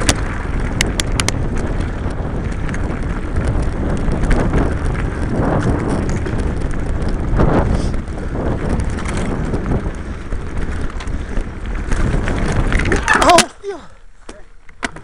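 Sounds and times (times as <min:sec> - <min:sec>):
bike knocks and rattles: 0:00.0 - 0:15.0
bike tyre noise: 0:00.0 - 0:15.0
wind buffeting microphone: 0:00.0 - 0:15.0.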